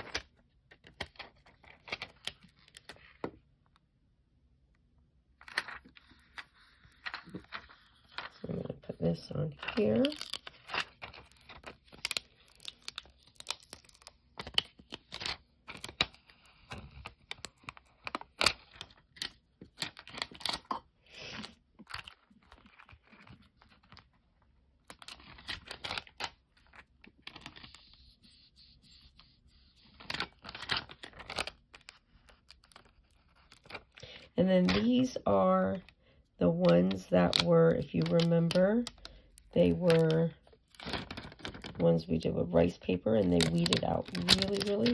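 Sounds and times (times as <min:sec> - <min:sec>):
plastic film crinkling and scratching: 0:05.5 - 0:35.1, 0:36.6 - 0:41.9, 0:42.9 - 0:44.9.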